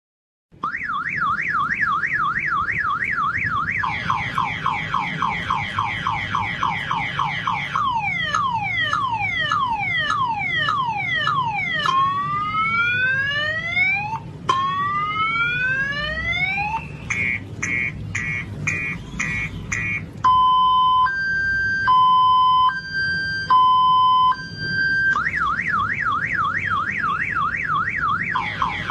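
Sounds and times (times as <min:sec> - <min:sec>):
car alarm siren: 0:00.5 - 0:28.9.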